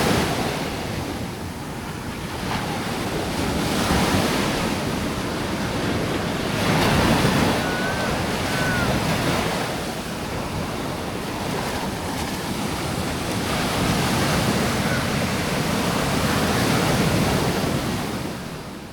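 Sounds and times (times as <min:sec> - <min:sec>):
surf breaking on beach: 0:00.0 - 0:18.7.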